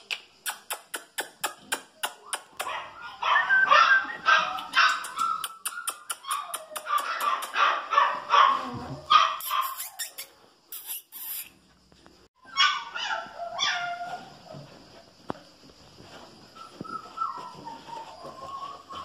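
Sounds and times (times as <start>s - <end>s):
puppies yipping and barking: 0.5s - 11.6s, 12.4s - 15.1s, 16.0s - 19.0s.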